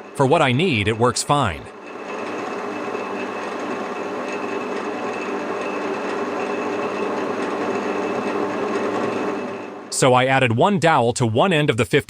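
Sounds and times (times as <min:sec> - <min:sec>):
drill press running: 0:00.0 - 0:10.0.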